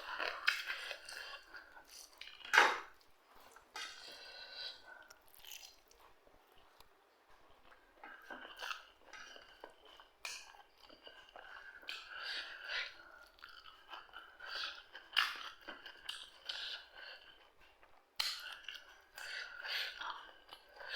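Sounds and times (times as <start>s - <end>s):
person chewing crunchy food: 0.0s - 20.9s.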